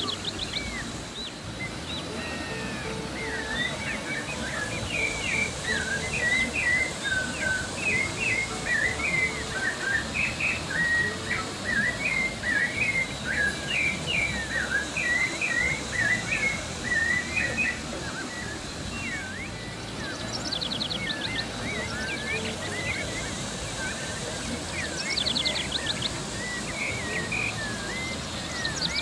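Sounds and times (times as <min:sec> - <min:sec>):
songbird singing: 0:00.0 - 0:29.0
water rushing through rapids: 0:00.0 - 0:29.0.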